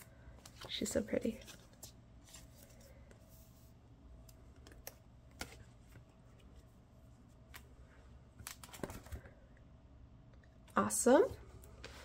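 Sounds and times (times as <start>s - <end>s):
quiet room hum: 0.0s - 12.0s.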